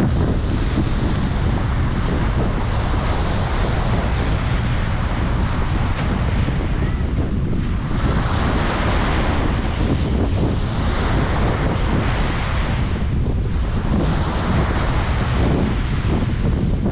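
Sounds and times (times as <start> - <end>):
ocean surf washing onto beach: 0.0 - 16.9
wind rumbling on microphone: 0.0 - 16.9.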